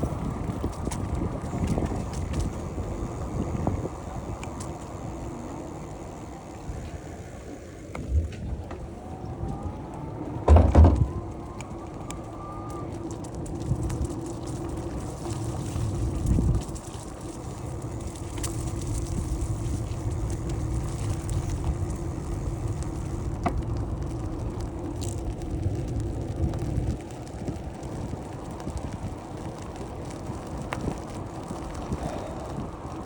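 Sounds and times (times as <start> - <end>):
bicycle rolling: 0.0 - 33.0
wind buffeting microphone: 0.0 - 33.0
faint clicks: 0.5 - 10.0, 11.2 - 33.0.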